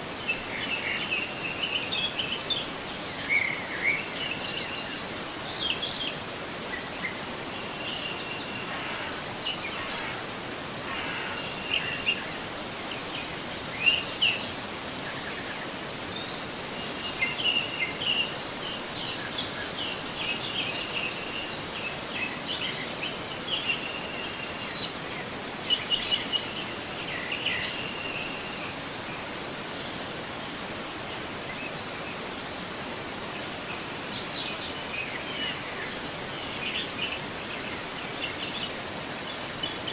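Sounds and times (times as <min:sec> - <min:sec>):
river flowing: 0:00.0 - 0:39.9
songbirds chirping: 0:00.0 - 0:39.9.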